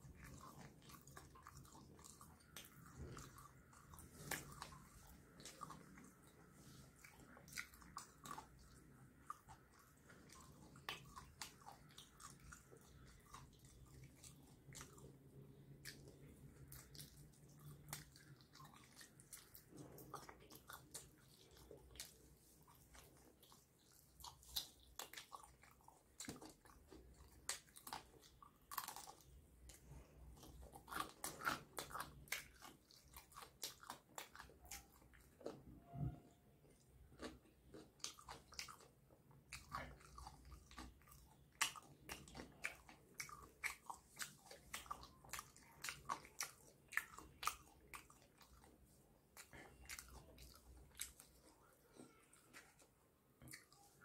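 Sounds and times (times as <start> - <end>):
chewing crispy fried chicken: 0.0 - 54.0.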